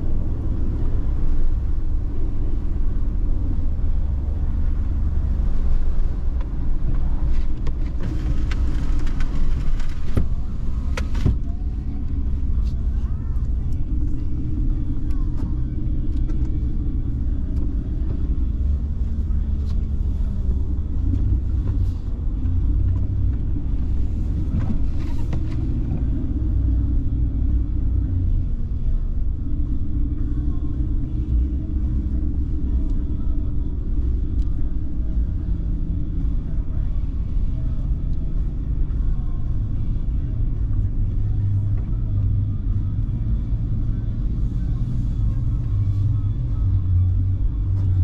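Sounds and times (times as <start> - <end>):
car engine rumble: 0.0 - 48.0
road noise: 0.0 - 48.0.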